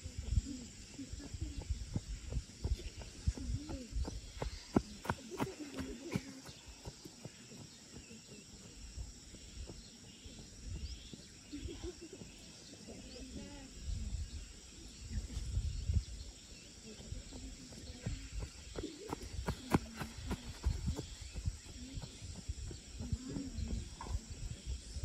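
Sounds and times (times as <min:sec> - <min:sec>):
birds chirping: 0:00.0 - 0:25.0
faint distant voices: 0:00.0 - 0:25.0
insects chirping: 0:00.0 - 0:25.0.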